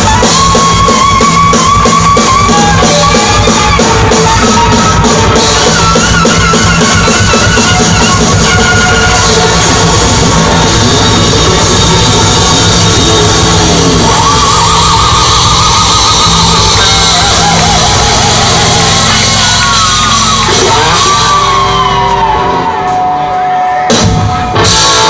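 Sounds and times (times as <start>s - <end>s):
high bending melody line: 0.0s - 25.0s
rock band playing: 0.0s - 25.0s.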